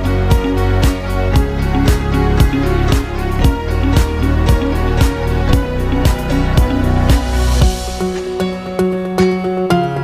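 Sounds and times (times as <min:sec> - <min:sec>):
plucked-string instrumental music: 0:00.0 - 0:10.0.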